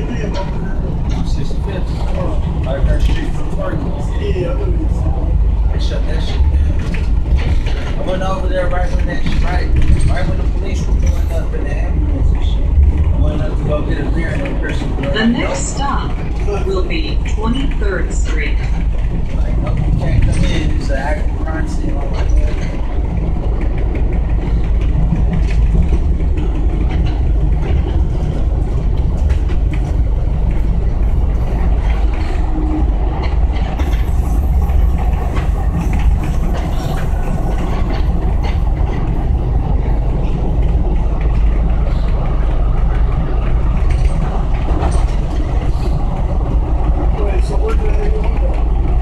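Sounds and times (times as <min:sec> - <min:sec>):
light rail train rumbling: 0:00.0 - 0:49.0.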